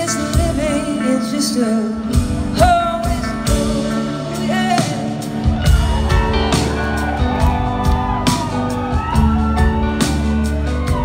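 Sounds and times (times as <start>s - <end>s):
bass and drums: 0.0s - 11.0s
electric guitar lead: 0.0s - 11.0s.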